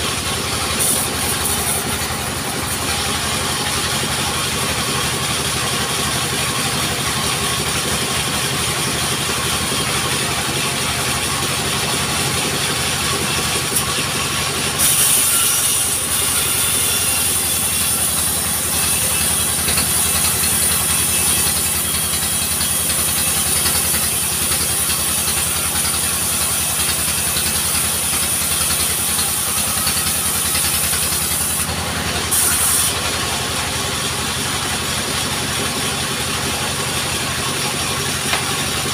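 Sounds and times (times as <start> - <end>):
high-pitched blade cutting log: 0.0 - 38.9
sawmill engine running: 0.0 - 38.9.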